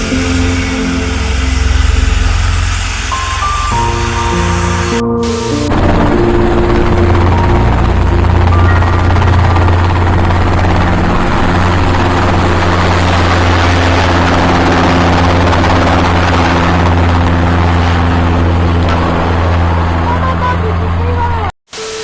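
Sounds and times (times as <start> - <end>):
helicopter running: 0.0 - 21.5.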